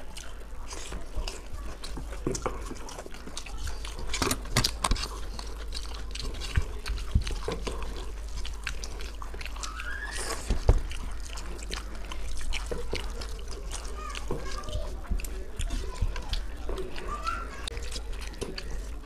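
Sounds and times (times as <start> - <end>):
fingers working food on steel plates: 0.0 - 19.0
lip smacks: 0.0 - 19.0
wet chewing: 0.0 - 19.0.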